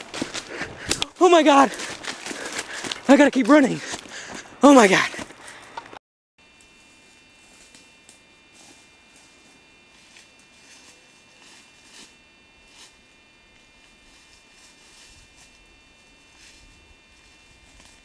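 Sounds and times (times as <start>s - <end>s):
thin high whine: 0.0s - 18.0s.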